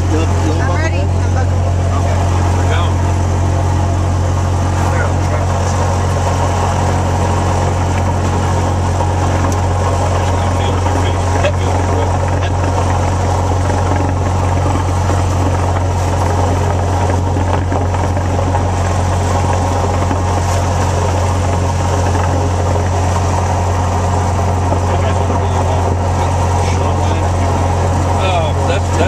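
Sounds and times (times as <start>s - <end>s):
light airplane engine drone: 0.0s - 29.0s.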